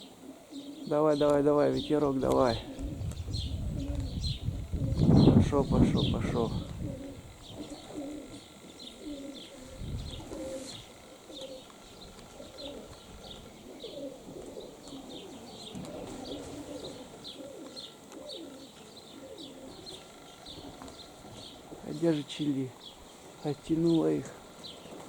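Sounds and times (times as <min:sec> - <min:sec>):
pigeons cooing: 0:00.0 - 0:25.0
small bird chirping: 0:00.0 - 0:25.0.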